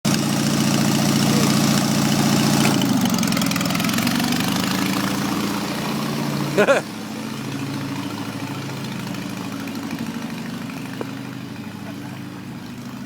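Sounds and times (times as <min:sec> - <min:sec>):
ride-on mower engine idling: 0:00.1 - 0:13.0.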